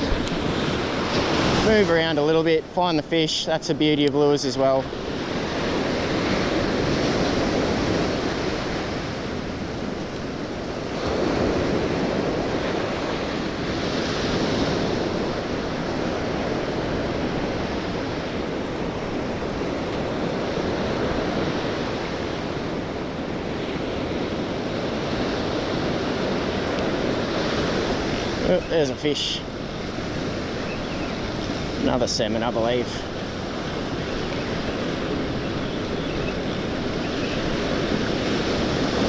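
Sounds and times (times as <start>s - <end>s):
ocean surf breaking on beach: 0.0s - 39.0s
wind buffeting microphone: 0.0s - 39.0s.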